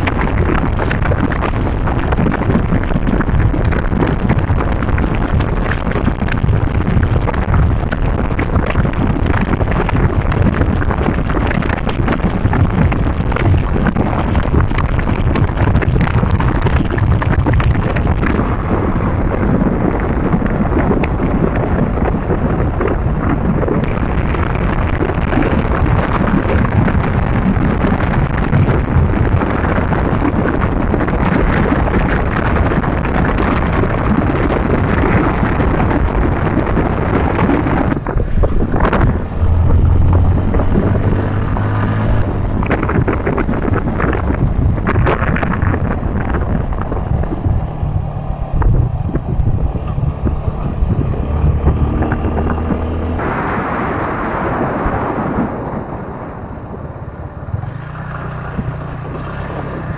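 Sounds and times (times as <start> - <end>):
vehicle road rumble: 0.0 - 59.9
wind buffeting microphone: 0.0 - 59.9.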